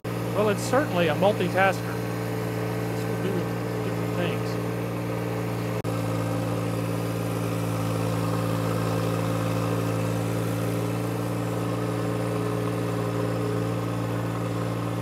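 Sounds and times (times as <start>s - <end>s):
diesel tractor engine running: 0.0s - 15.0s.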